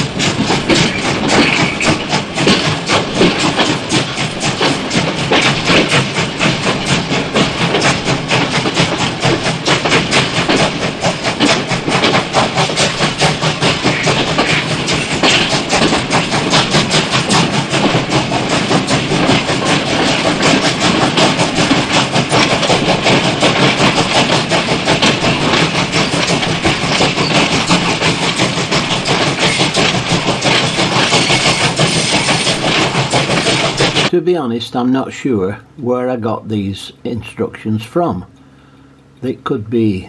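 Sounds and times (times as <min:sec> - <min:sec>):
train rumbling and clattering: 0:00.0 - 0:40.0.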